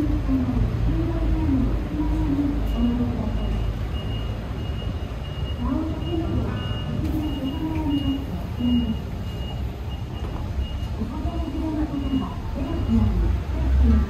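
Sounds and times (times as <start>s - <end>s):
bus and car engines rumbling: 0.0s - 14.0s.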